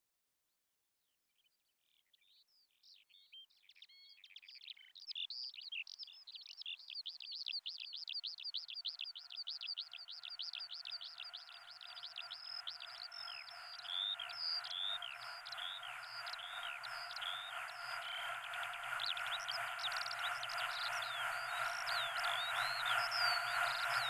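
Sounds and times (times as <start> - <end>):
bird-like chirping: 3.3 - 24.0.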